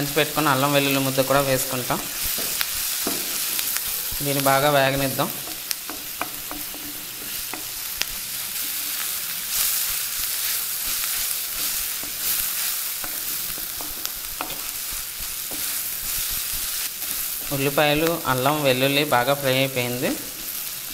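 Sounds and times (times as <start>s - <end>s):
food sizzling in oil: 0.0s - 20.9s.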